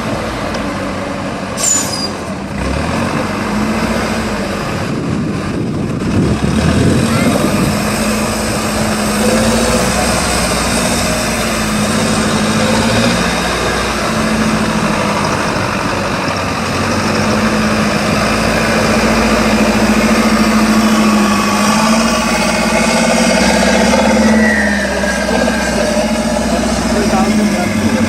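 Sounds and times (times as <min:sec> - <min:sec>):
truck engine running: 0:02.2 - 0:28.0.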